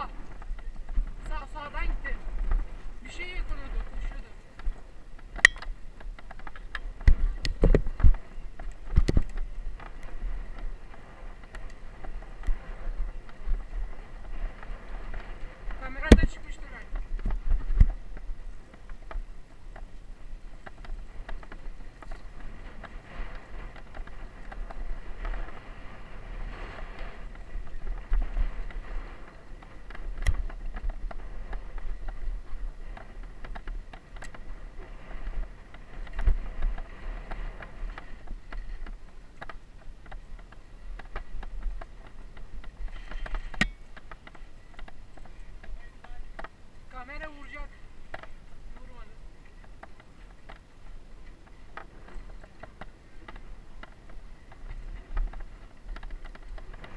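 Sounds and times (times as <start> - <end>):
bike rattling over bumps: 0.0 - 56.9
tyre and wind noise: 0.0 - 56.9.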